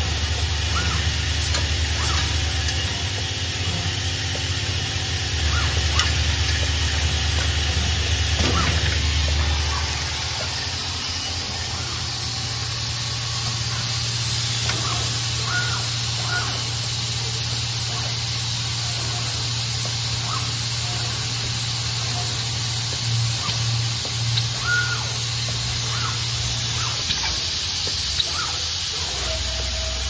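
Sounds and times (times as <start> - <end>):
machine hum and hiss: 0.0 - 30.0.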